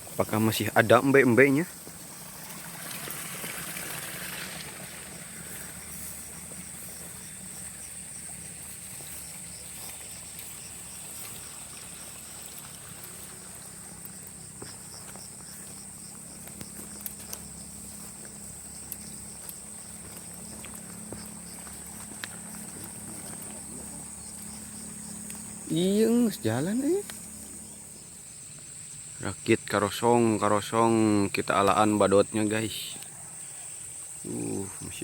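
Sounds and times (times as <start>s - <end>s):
insects droning: 0.0s - 35.0s
pulsing insect chirp: 0.0s - 35.0s.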